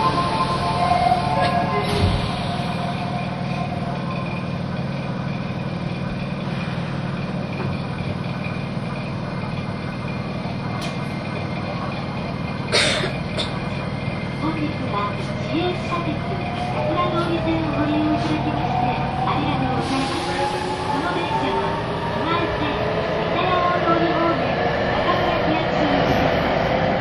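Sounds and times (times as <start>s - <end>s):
train humming at platform: 0.0s - 27.0s.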